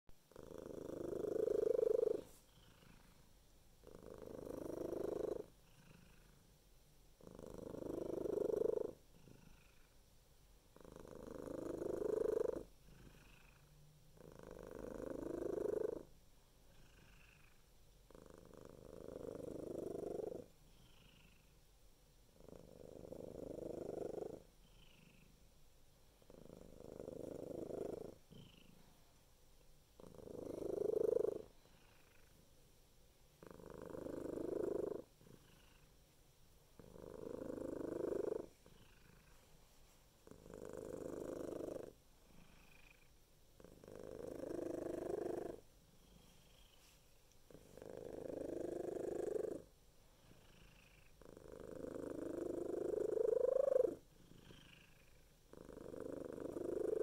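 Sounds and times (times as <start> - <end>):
cat purring: 0.1 - 57.0.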